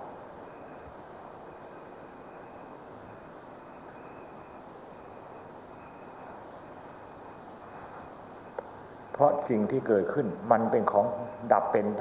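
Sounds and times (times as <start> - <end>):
background hiss: 0.0 - 12.0
faint pulsing high tone: 0.0 - 12.0.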